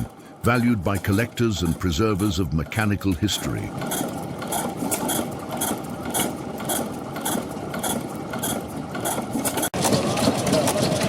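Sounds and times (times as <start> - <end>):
stationary engine clattering: 0.0 - 11.0.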